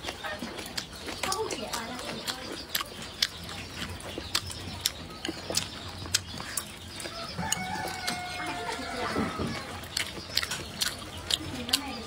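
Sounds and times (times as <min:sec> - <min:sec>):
wet chewing mouth sounds: 0:00.0 - 0:12.0.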